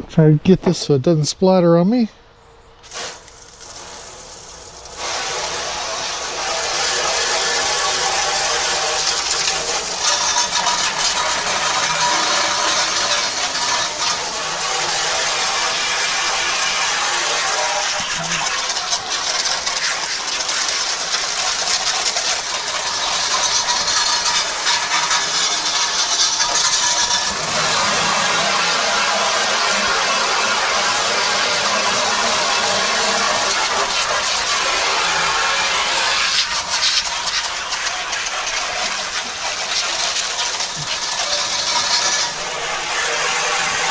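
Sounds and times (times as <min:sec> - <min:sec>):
hose water spraying on grill: 0:02.8 - 0:43.9.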